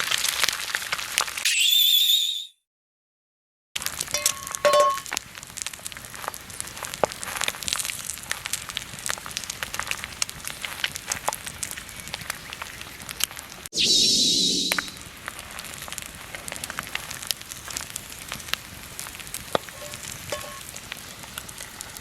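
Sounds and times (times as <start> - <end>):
wood fire crackling and popping: 0.0 - 1.4, 3.8 - 13.7, 14.5 - 22.0.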